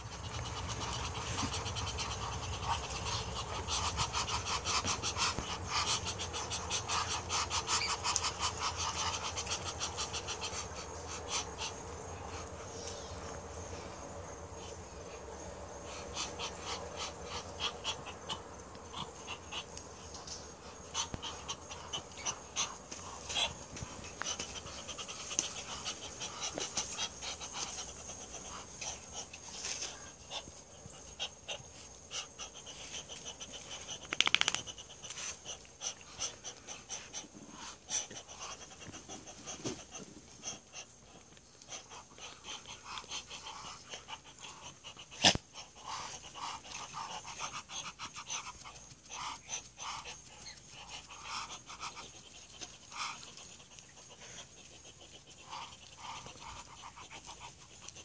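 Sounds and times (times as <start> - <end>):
small ticks and scuffs: 0.0 - 58.0.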